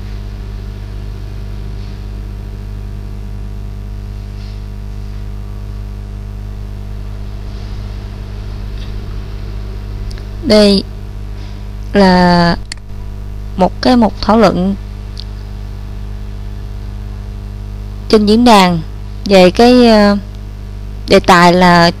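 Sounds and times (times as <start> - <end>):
low electrical hum: 0.0 - 22.0
microphone hiss: 0.0 - 22.0.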